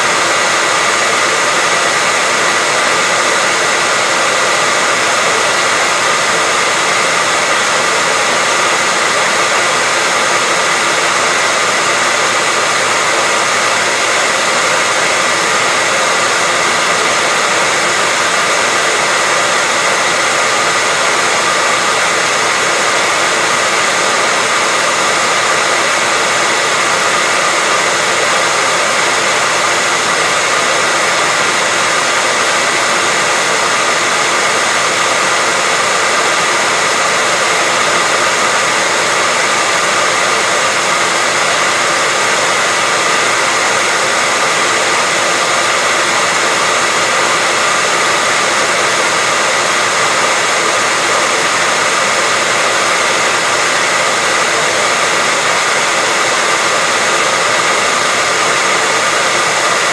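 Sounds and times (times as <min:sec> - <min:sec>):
hairdryer running: 0:00.0 - 0:59.9.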